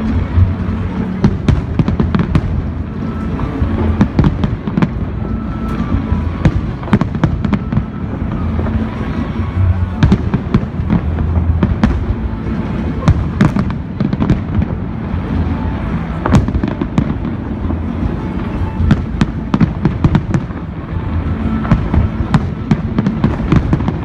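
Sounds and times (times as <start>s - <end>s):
fireworks bursting: 0.0s - 24.0s
music playing: 0.0s - 24.0s.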